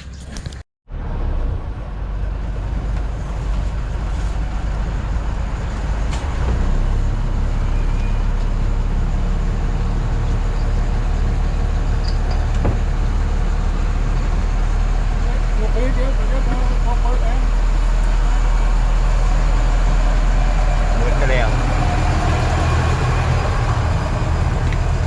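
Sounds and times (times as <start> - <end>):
engine deep low drone: 0.0 - 25.0.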